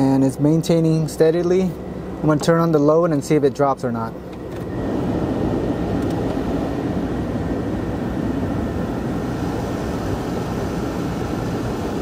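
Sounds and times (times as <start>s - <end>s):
blower fan rushing air: 0.0s - 12.0s
car engine idling: 0.0s - 12.0s.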